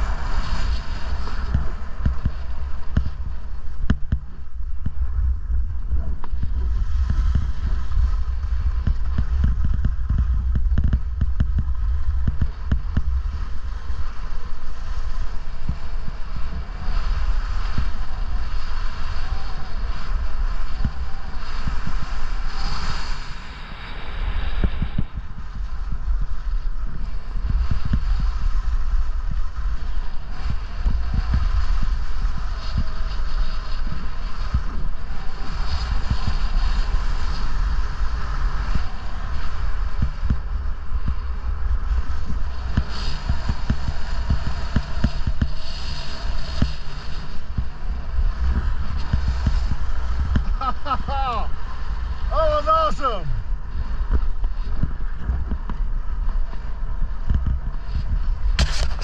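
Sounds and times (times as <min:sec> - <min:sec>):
skis scraping over snow: 0:00.0 - 0:59.0
wind buffeting microphone: 0:00.0 - 0:59.0.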